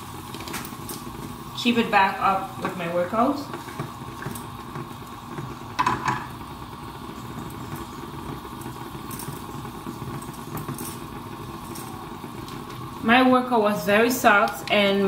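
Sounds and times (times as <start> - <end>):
cooker hood fan humming: 0.0 - 15.0.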